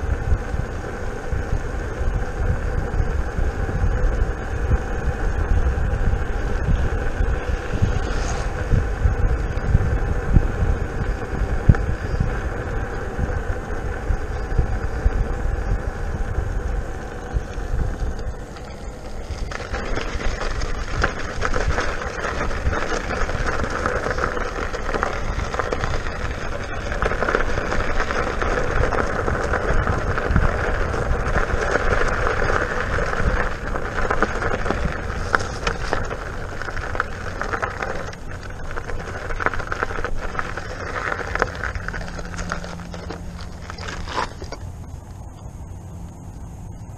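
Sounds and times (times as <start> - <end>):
electric motor whine: 0.0 - 46.9
tire rumble on road: 0.0 - 46.9
tires on gravel: 0.0 - 46.9.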